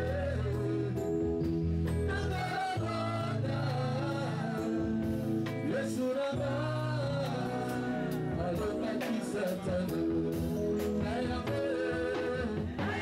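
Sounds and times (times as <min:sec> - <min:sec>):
congregation singing gospel: 0:00.0 - 0:13.0
held bass and keyboard notes: 0:00.0 - 0:13.0.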